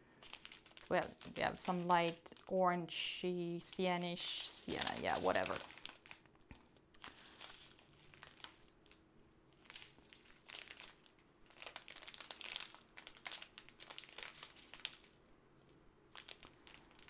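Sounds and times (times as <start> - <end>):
plastic bags crinkling: 0.2 - 15.2, 16.1 - 17.0.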